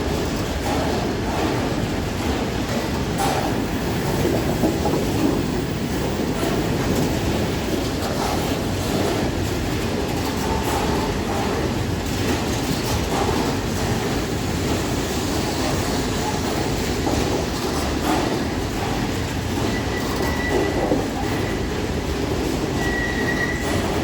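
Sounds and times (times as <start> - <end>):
freight train rolling past: 0.0 - 24.0
wheels clicking over rail joints: 0.0 - 24.0.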